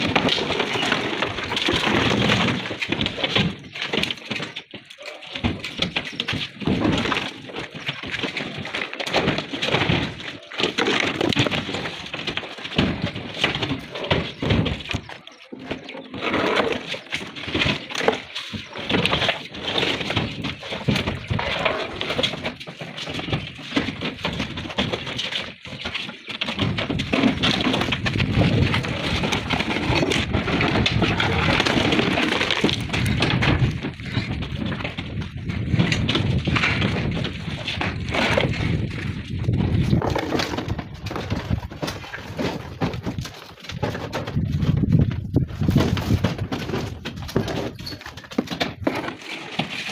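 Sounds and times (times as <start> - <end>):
stone slabs clattering and scraping: 0.0 - 49.9.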